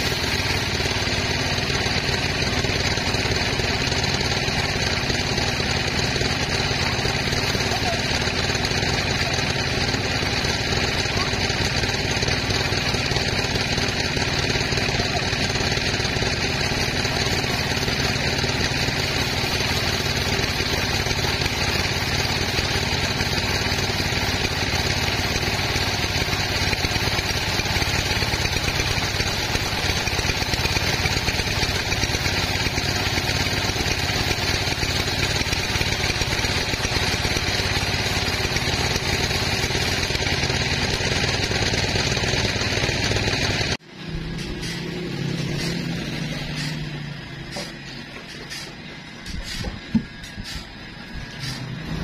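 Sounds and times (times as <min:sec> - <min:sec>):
sawmill machinery droning: 0:00.0 - 0:52.0.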